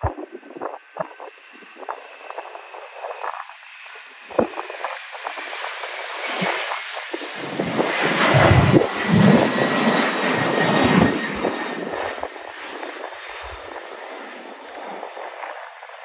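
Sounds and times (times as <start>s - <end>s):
jet airliner roar: 0.0s - 16.0s.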